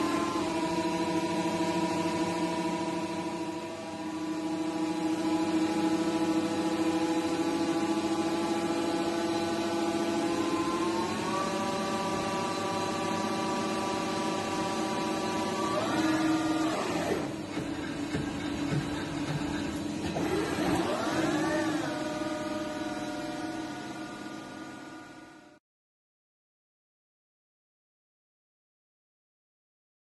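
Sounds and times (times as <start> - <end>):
lathe machine whine: 0.0 - 25.6.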